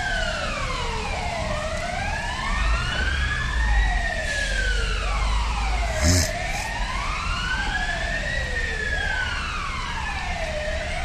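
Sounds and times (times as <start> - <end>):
emergency vehicle sirens wailing: 0.0 - 11.0.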